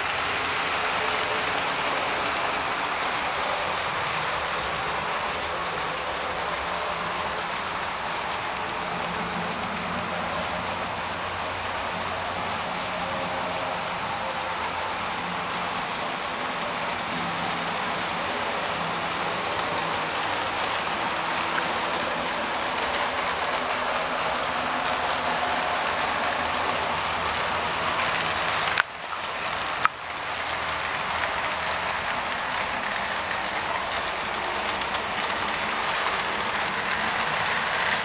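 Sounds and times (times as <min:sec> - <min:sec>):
model trains whirring: 0:00.0 - 0:38.0.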